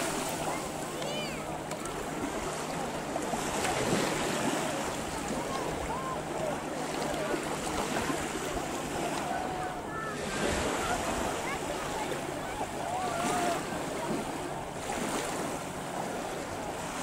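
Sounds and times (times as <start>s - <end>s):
faint voices: 0.0s - 17.0s
surf on a beach: 0.0s - 17.0s
wind: 0.0s - 17.0s.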